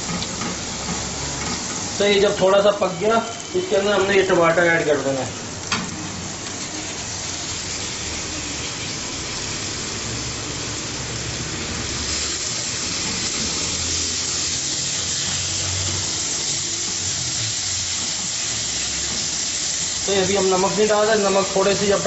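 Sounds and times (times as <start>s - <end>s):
tomatoes sizzling in hot oil: 0.0s - 22.0s.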